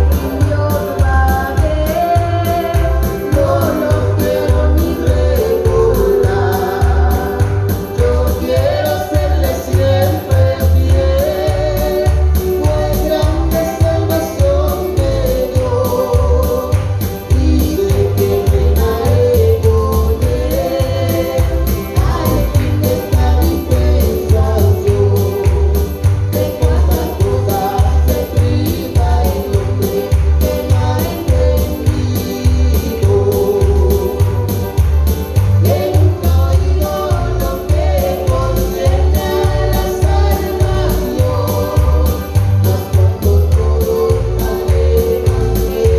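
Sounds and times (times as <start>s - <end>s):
live band with pulsing bass: 0.0s - 45.9s
man and woman singing a hymn: 0.0s - 45.9s.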